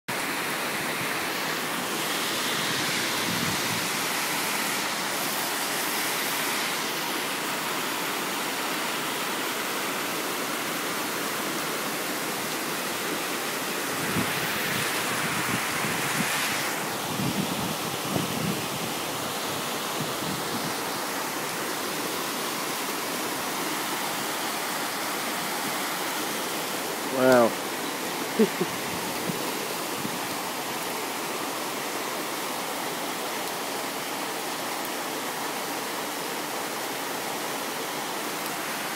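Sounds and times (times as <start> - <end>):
flood water rushing: 0.1 - 38.9.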